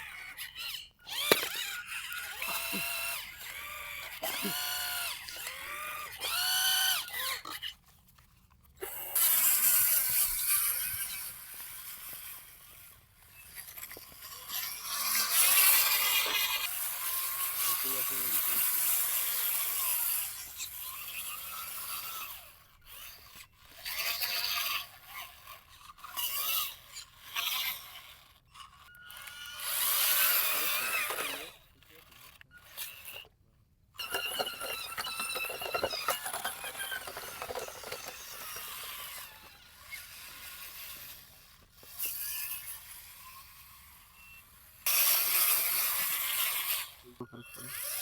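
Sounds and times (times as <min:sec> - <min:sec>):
toy electric motors whirring: 0:00.0 - 0:48.0.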